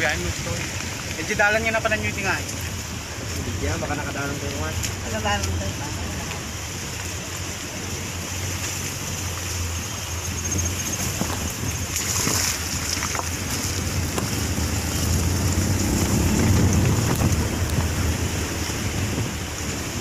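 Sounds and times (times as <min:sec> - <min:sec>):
river rushing over stones: 0:00.0 - 0:20.0
wind blowing on microphone: 0:00.0 - 0:20.0.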